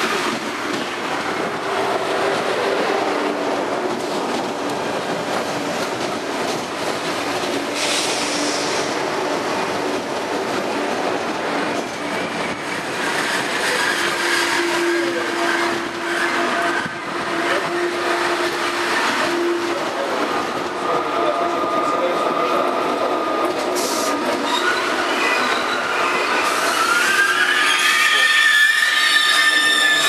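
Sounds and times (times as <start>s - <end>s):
clickety-clack over rail joints: 0.0s - 25.8s
train wheels rushing on rails: 0.0s - 30.0s.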